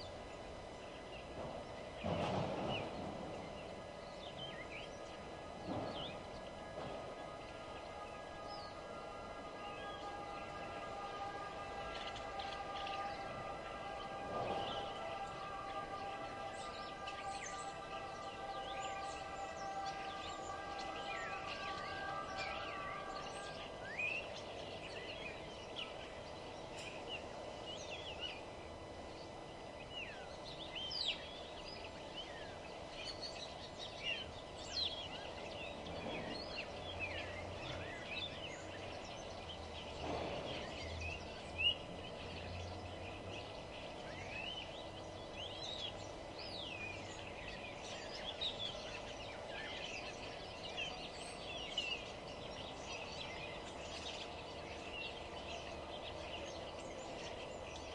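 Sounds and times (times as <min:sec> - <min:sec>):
small birds chirping and singing: 0:00.0 - 0:57.9
steady background murmur: 0:00.0 - 0:57.9.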